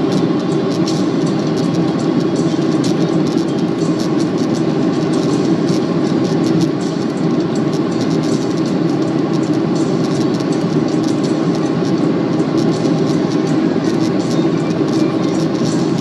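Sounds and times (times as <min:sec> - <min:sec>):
jet engine roar in cabin: 0:00.0 - 0:16.0.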